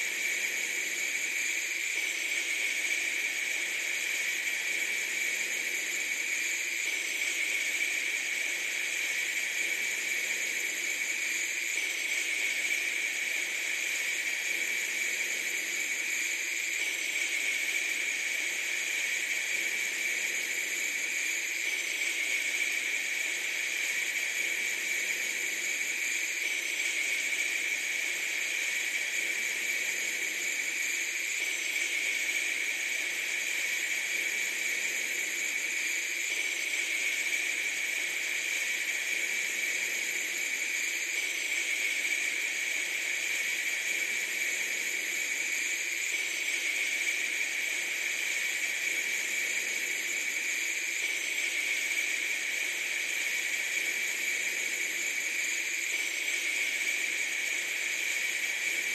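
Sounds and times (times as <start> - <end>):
steady hiss: 0.0 - 58.9.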